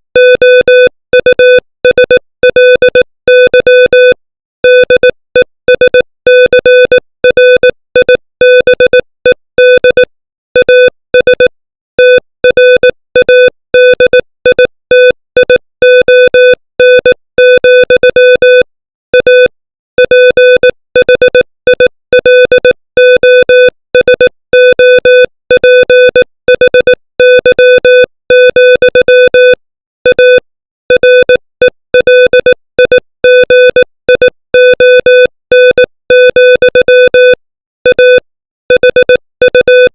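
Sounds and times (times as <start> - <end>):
morse code tone: 0.2 - 39.9.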